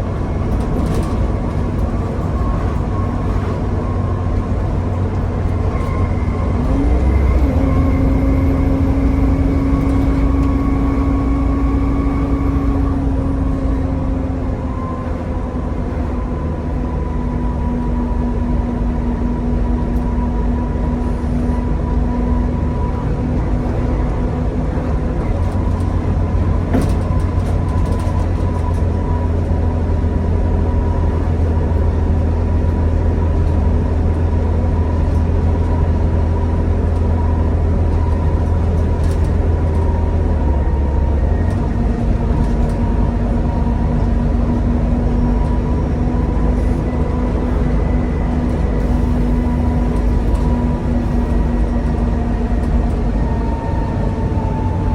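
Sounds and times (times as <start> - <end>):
bus diesel engine drone with whine: 0.0 - 54.9.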